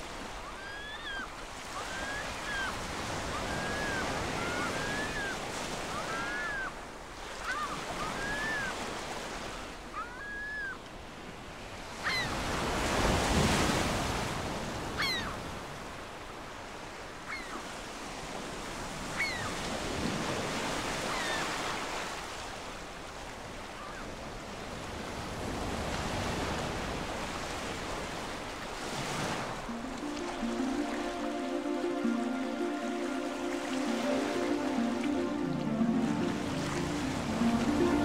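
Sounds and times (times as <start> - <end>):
waves washing onto shore: 0.0 - 38.0.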